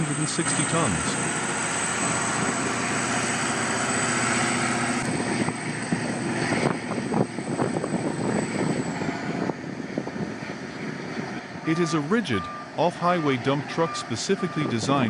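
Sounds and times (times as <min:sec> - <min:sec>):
heavy diesel engine drone: 0:00.0 - 0:15.0.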